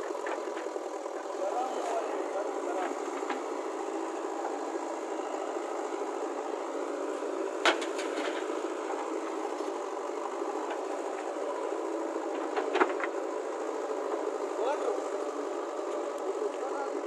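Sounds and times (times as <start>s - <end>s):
diesel engines running: 0.0s - 17.0s.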